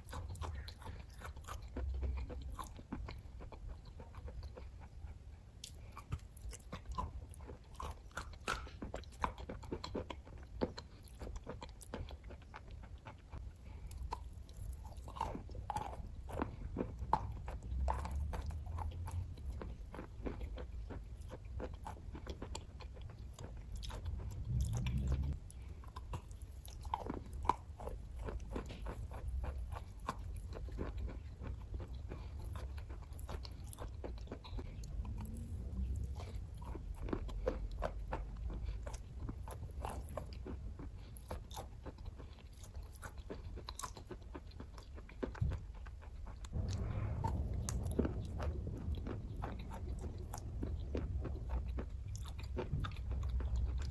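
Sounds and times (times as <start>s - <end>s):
chewing and biting: 0.0s - 53.9s.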